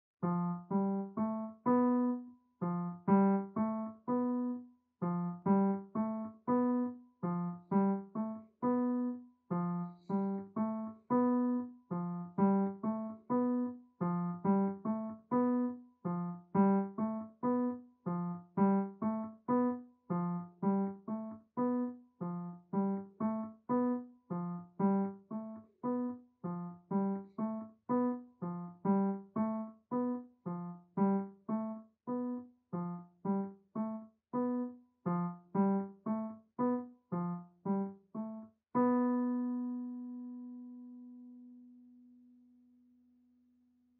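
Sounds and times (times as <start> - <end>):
solo piano: 0.2 - 41.9.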